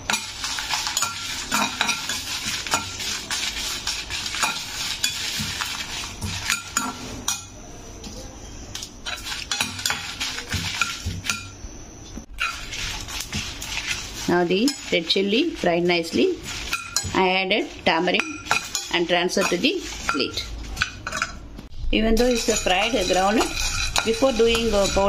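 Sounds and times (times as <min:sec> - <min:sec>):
steel spoon scraping a pan: 0:00.0 - 0:07.5, 0:09.0 - 0:11.6, 0:12.4 - 0:21.4, 0:22.0 - 0:25.0
spices sizzling in hot oil: 0:00.0 - 0:07.6, 0:09.0 - 0:11.6, 0:12.3 - 0:21.2, 0:21.8 - 0:25.0.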